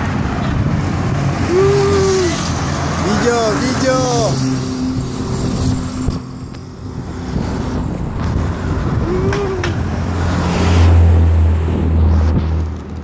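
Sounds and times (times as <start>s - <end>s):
highway traffic passing: 0.0s - 13.0s
vehicle engine drone: 0.0s - 13.0s.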